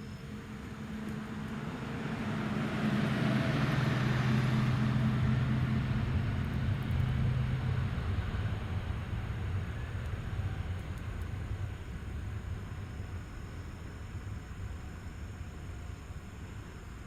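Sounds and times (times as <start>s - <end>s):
jet engines passing: 0.0s - 14.7s.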